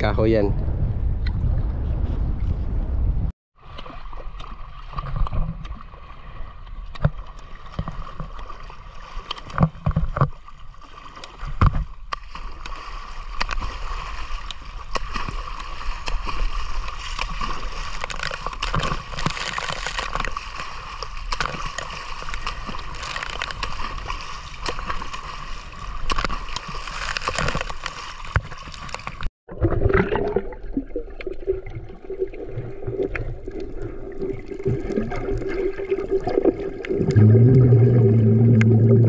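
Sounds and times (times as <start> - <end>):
sea water sloshing: 3.6 - 39.0.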